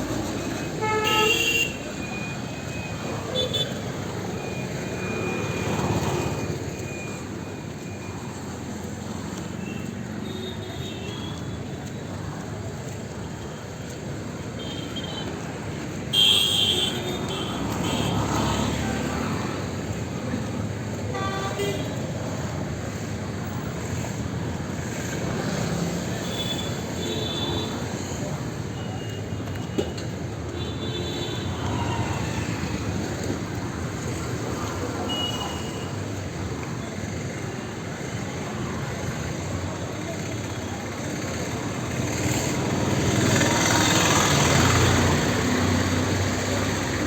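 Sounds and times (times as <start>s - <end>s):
street traffic: 0.0s - 47.0s.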